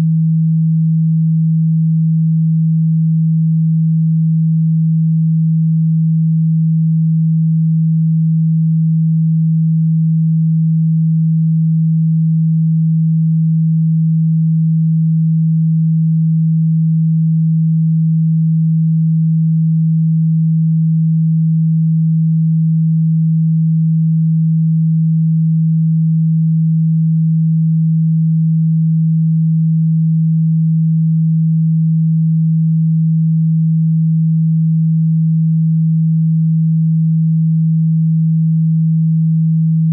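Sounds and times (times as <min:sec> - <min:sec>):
low electronic tone: 0:00.0 - 0:39.9.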